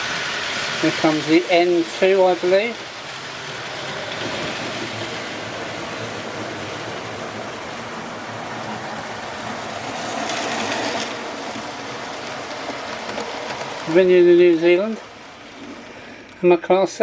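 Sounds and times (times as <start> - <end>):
electric locomotive motor whirr: 0.0 - 17.0
wheels rattling on rail: 0.0 - 17.0.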